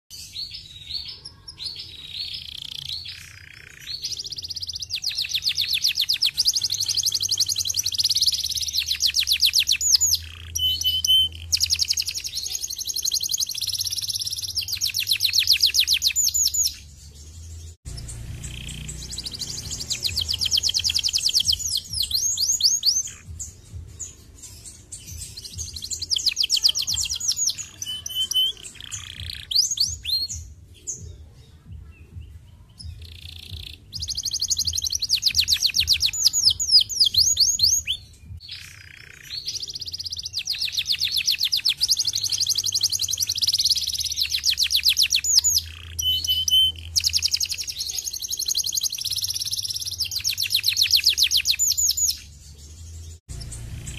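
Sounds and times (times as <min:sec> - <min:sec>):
canary singing trills: 0:00.1 - 0:53.9.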